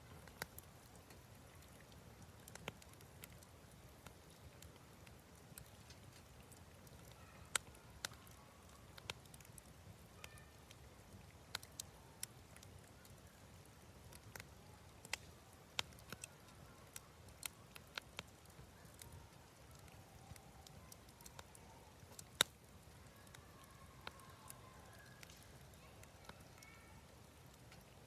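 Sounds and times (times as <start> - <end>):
wood campfire crackling: 0.0 - 28.0.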